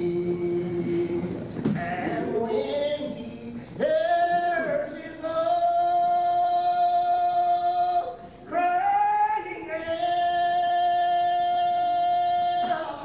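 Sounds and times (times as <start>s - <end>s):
unaccompanied hymn singing: 0.0s - 13.0s.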